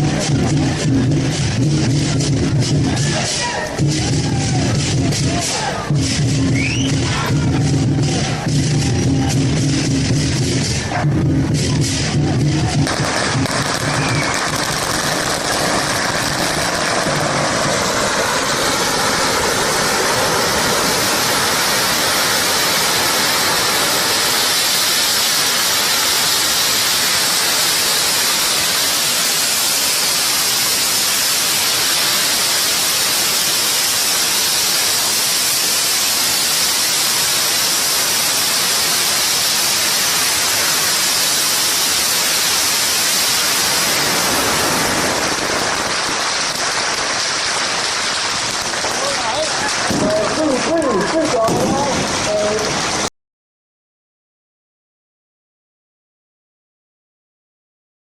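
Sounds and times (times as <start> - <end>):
firecrackers crackling: 0.0 - 53.1.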